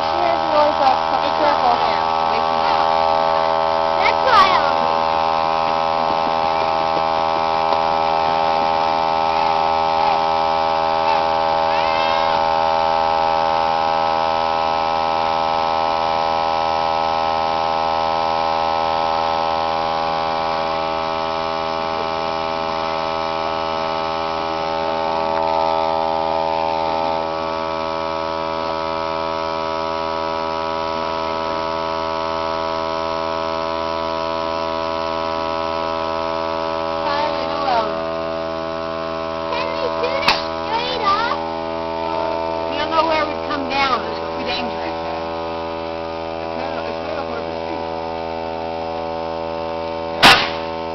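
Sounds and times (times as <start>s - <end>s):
electric air compressor humming: 0.0s - 50.9s.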